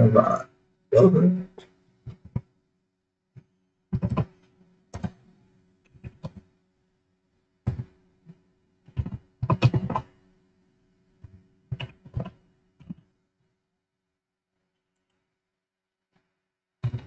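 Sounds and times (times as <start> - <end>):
faint low hum: 0.0 - 15.5.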